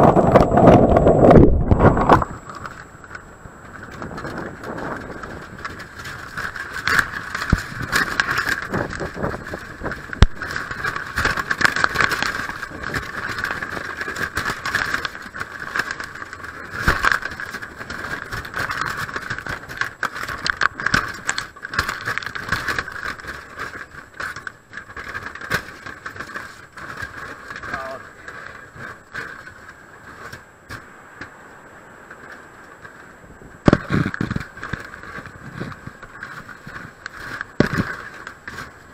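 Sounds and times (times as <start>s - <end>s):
steady rushing noise: 0.0s - 38.9s.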